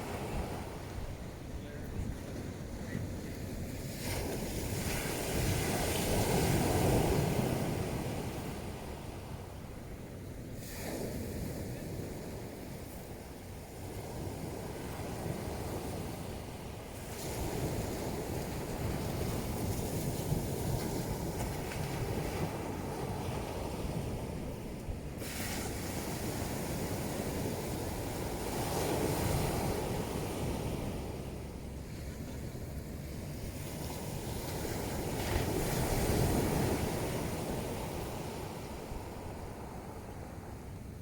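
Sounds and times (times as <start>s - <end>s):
ocean surf breaking on shore: 2.4s - 41.0s.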